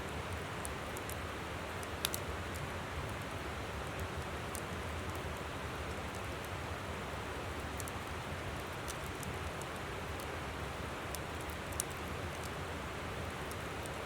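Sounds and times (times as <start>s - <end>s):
campfire crackling and popping: 0.3s - 6.6s, 7.6s - 12.6s, 13.2s - 14.0s.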